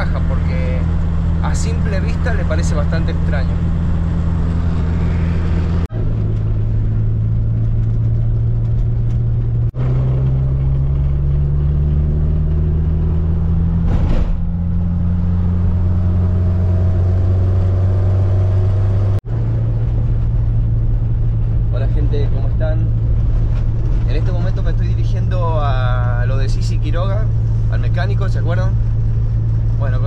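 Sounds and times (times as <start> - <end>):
car engine running: 0.0 - 30.0
road noise: 0.0 - 30.0.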